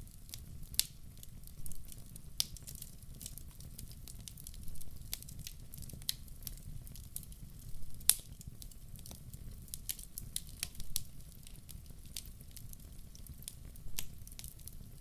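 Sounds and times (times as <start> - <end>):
low rumble of flames: 0.0 - 15.0
logs crackling and popping: 0.1 - 15.0.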